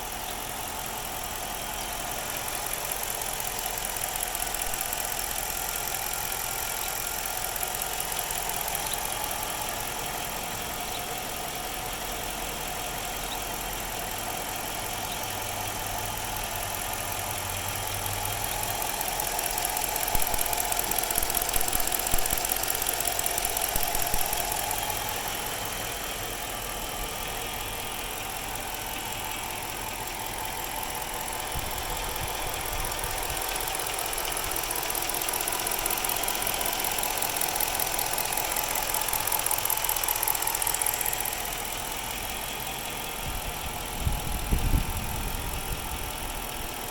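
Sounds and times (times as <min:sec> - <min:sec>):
car engine idling roughly: 0:00.0 - 0:46.9.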